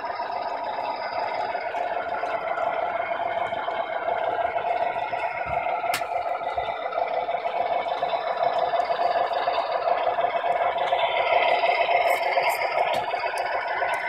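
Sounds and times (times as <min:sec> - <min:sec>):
model train drone: 0:00.0 - 0:14.0.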